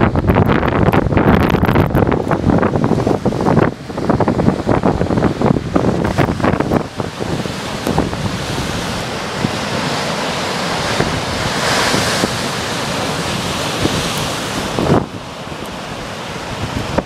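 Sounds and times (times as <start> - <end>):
waves breaking on rocky shore: 0.0 - 17.0
wind buffeting microphone: 0.0 - 17.0.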